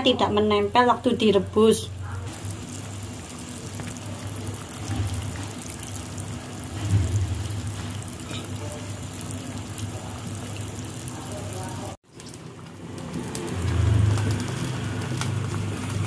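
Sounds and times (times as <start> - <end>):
water boiling and bubbling: 0.0 - 16.0
dough splashing into water: 2.4 - 16.0.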